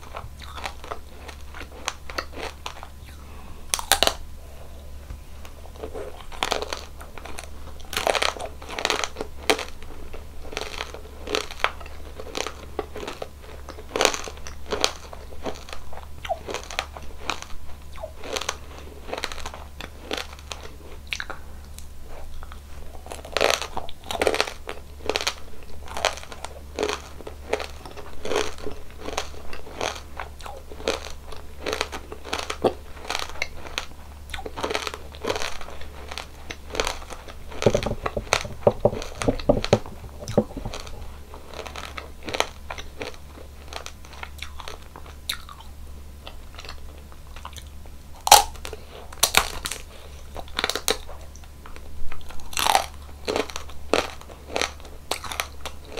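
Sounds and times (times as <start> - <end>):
crunching ice cream: 0.0 - 55.9.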